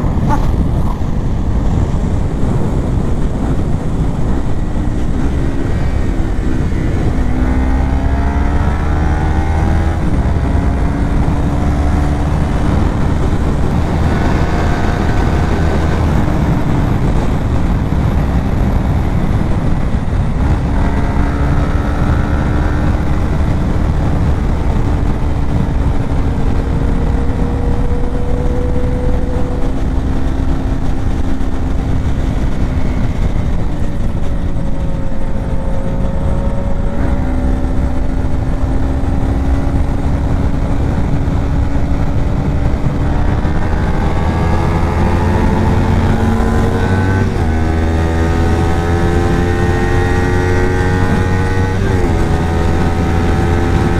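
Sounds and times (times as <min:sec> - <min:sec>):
motorcycle engine cruising: 0:00.0 - 0:53.9
wind rush: 0:00.0 - 0:53.9.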